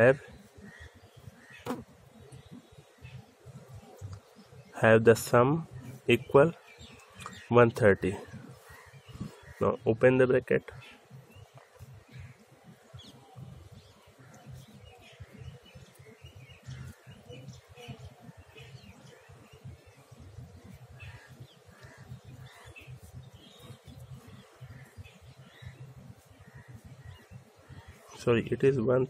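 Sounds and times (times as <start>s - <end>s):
faint bird chirps: 0.0s - 10.0s, 10.6s - 28.8s.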